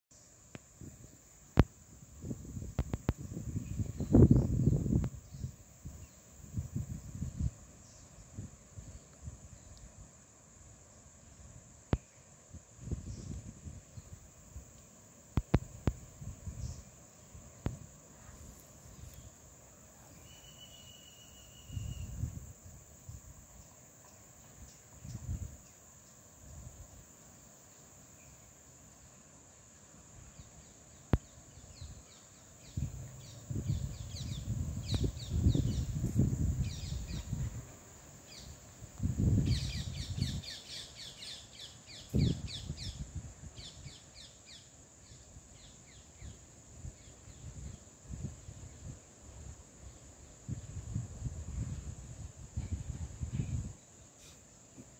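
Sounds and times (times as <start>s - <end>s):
high insect drone: 0.2s - 54.9s.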